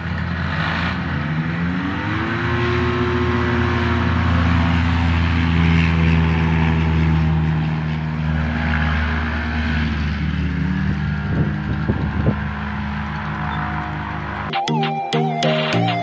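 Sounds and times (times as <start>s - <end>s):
light aircraft engine running: 0.0s - 14.5s.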